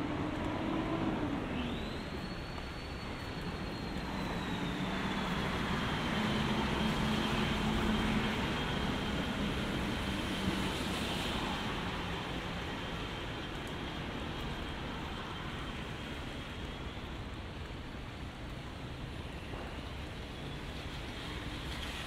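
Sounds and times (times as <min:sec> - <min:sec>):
passing vehicles on wet road: 0:00.0 - 0:22.0.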